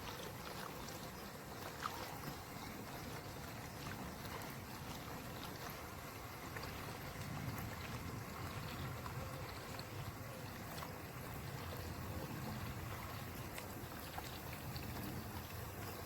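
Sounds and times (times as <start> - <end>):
pool water gurgling and lapping: 0.0 - 16.0.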